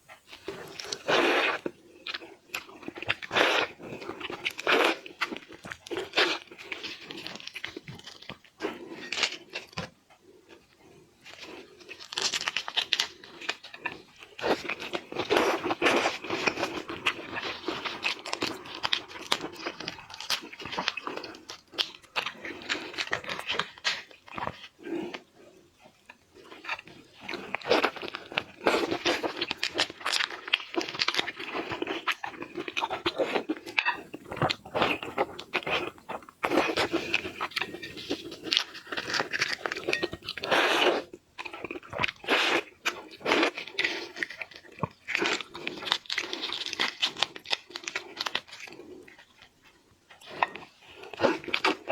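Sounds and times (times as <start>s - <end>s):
crunchy chewing of shrimp: 0.1s - 51.9s.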